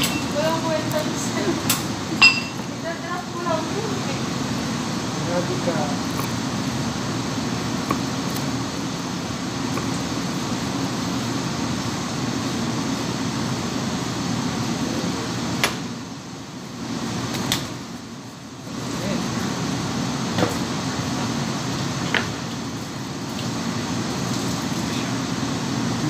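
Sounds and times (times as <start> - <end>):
kitchen equipment humming: 0.0 - 26.0.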